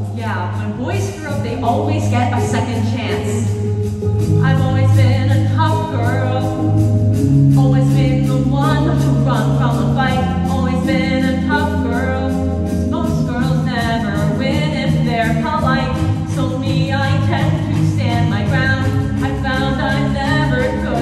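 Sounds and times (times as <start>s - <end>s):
pit band accompaniment: 0.0s - 21.0s.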